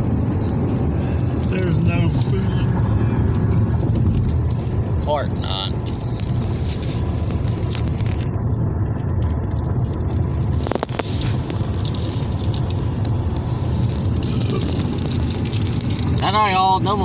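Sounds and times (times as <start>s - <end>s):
car road noise: 0.0s - 17.0s.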